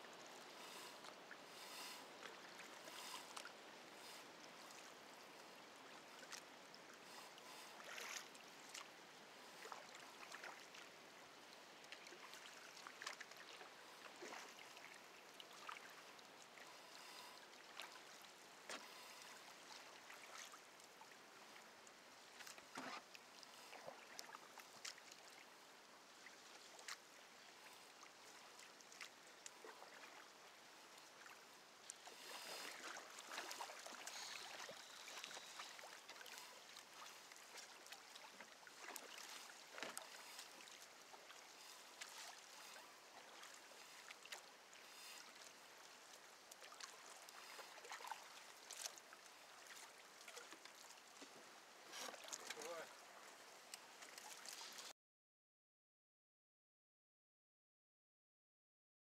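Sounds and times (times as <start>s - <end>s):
water lapping against canoe hull: 0.1s - 54.9s
small splashes and drips: 0.3s - 54.9s.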